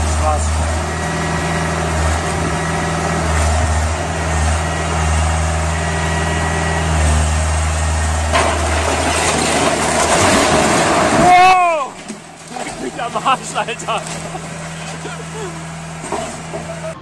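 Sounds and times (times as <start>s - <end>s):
diesel excavator engine running: 0.0s - 17.0s.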